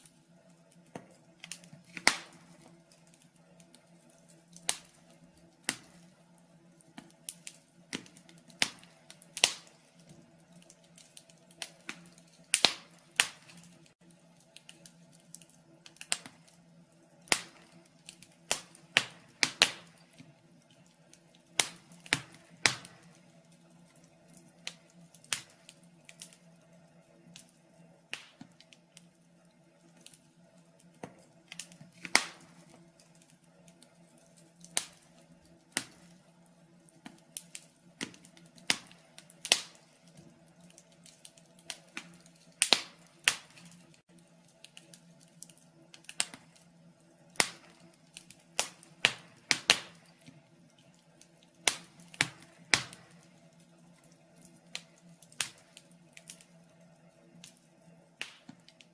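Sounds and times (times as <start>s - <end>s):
faint steady hum: 0.0s - 58.9s
fire crackling and popping: 0.0s - 58.9s.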